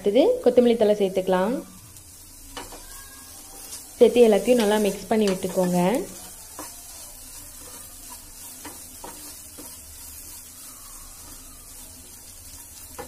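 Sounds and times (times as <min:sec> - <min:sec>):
faint sizzle: 0:00.0 - 0:13.0
wooden spatula scraping a pan: 0:02.5 - 0:13.0.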